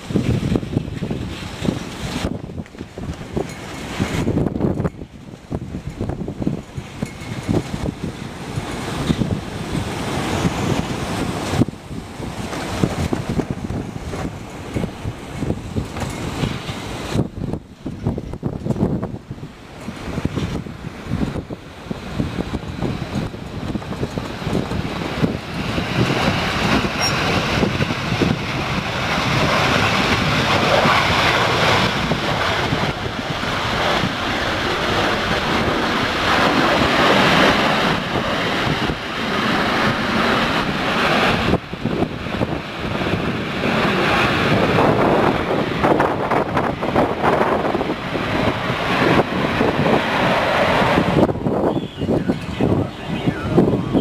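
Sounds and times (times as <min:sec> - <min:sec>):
jet engine roar: 0:00.0 - 0:54.0
wind buffeting microphone: 0:00.0 - 0:54.0.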